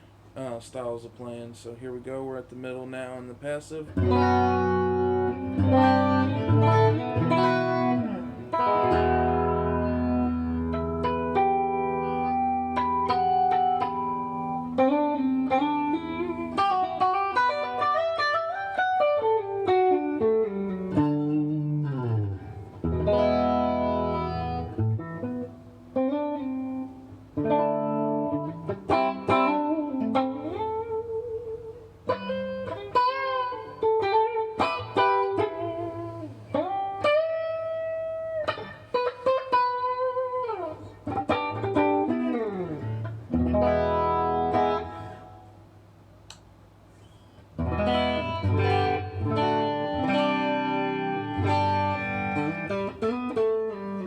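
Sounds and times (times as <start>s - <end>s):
clean electric guitar playing: 2.5s - 45.8s, 46.9s - 54.0s.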